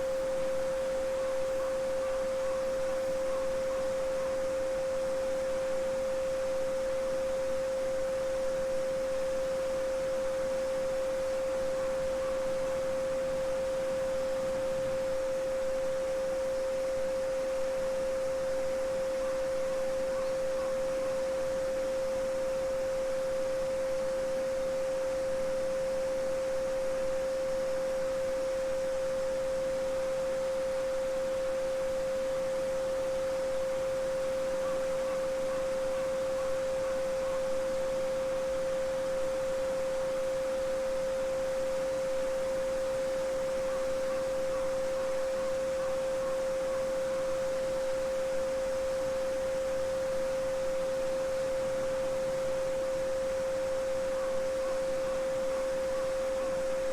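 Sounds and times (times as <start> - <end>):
steady sine tone: 0.0 - 56.9.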